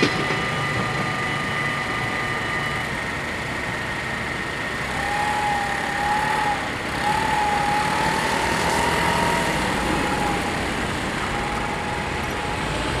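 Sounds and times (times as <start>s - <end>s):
motor scooter engines pulling away: 0.0s - 13.0s
steady high tone: 0.0s - 13.0s
wavering whine: 0.0s - 13.0s.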